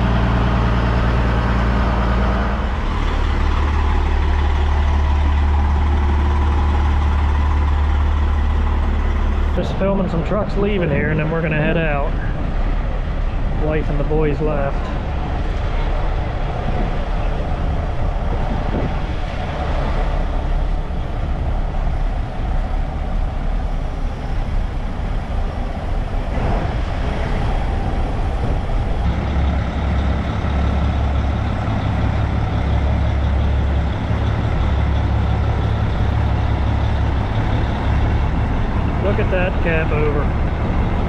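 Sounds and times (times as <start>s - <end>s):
truck diesel engines rumbling: 0.0s - 41.0s.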